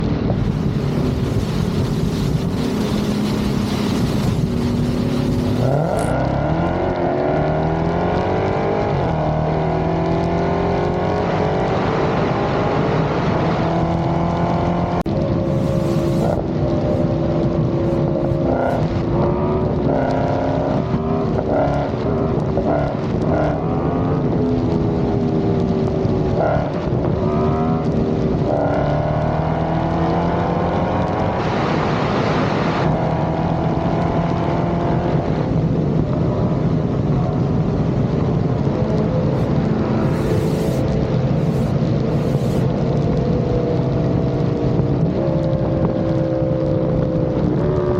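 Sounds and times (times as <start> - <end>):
car engine accelerating hard: 0.1 - 47.9.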